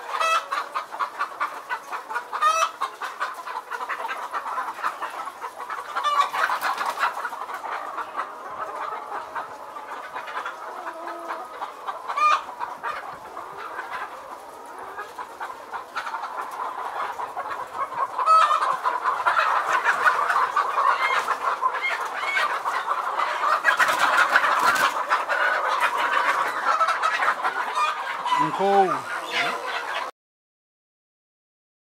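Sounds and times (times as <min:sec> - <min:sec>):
chickens clucking: 0:00.0 - 0:30.1
chickens squawking: 0:00.0 - 0:30.1.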